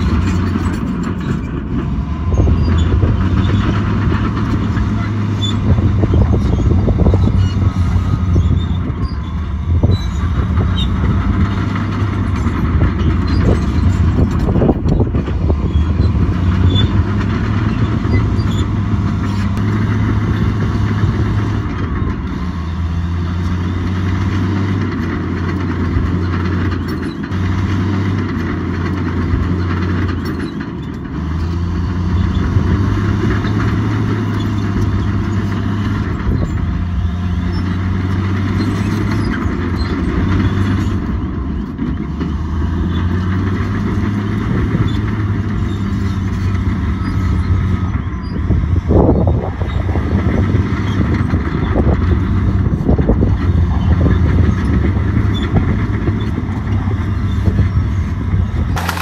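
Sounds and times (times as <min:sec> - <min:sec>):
heavy diesel engine working: 0:00.0 - 0:59.0
steady grinding noise: 0:00.0 - 0:59.0.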